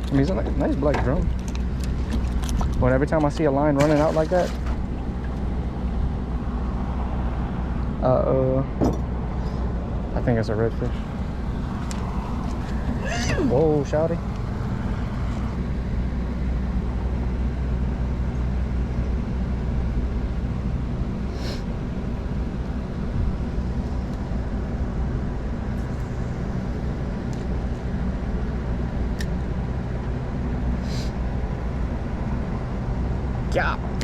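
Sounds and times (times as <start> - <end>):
low mechanical rumble: 0.0 - 34.0.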